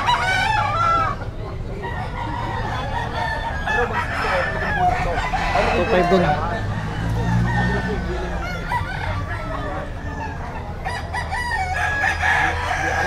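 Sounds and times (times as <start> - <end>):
chickens clucking: 0.0 - 13.0
roosters crowing: 0.0 - 13.0.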